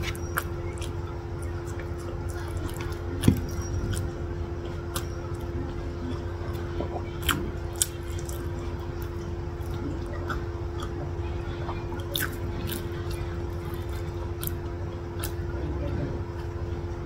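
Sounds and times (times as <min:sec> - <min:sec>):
person chewing with wet clicks: 0:00.0 - 0:17.0.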